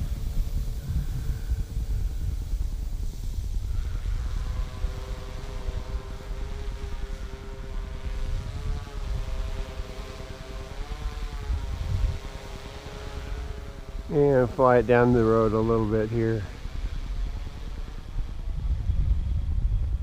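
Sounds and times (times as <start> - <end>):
quadcopter motors humming: 0.0 - 20.0.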